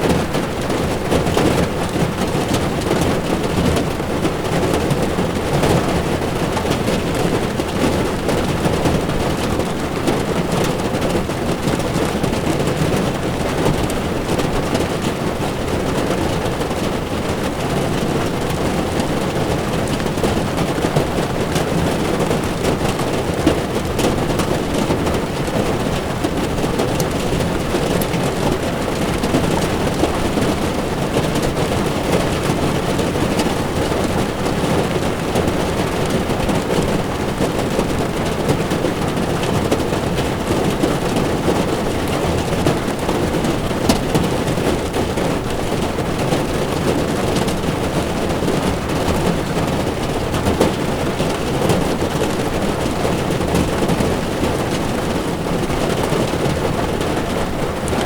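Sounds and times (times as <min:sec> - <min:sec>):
rain pattering on windshield: 0:00.0 - 0:58.0.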